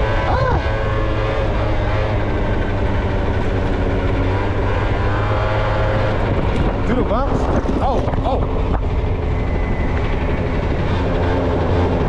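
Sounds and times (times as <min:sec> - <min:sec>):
scooter engine running steadily: 0:00.0 - 0:12.0.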